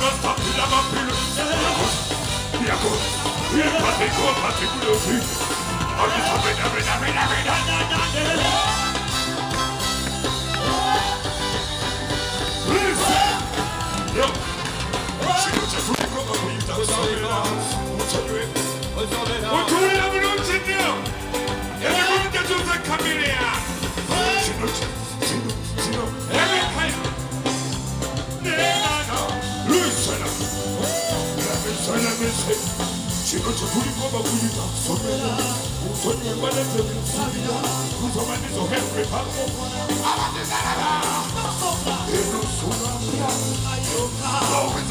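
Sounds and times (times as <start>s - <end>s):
band music through sound system: 0.0s - 44.9s
person singing: 0.0s - 44.9s.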